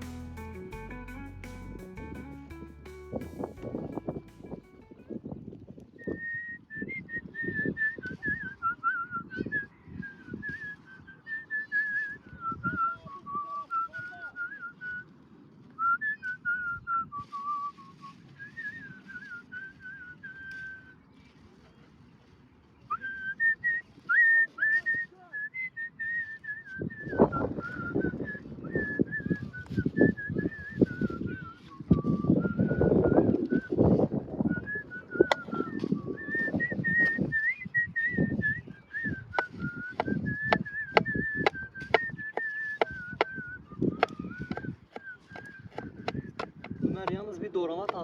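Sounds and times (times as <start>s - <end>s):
person whistling a tune: 6.0s - 15.1s, 15.8s - 21.0s, 22.9s - 47.2s.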